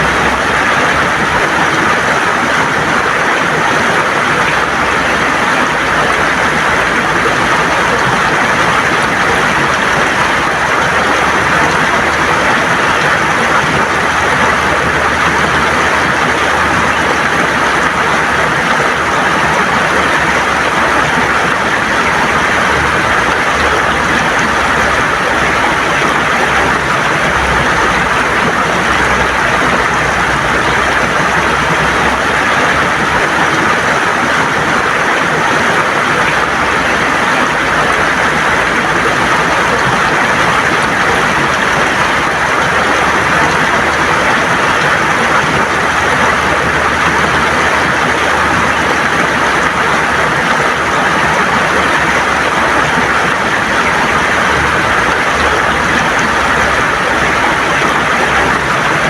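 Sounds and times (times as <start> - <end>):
river water gurgling over stones: 0.0 - 59.0.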